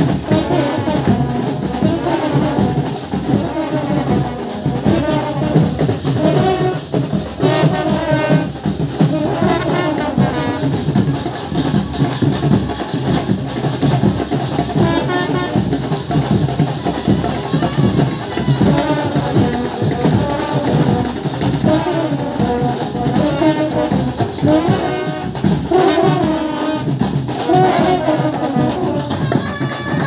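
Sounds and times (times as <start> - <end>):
brass horns playing melody: 0.0 - 13.7, 14.6 - 30.0
beating drums: 0.0 - 30.0.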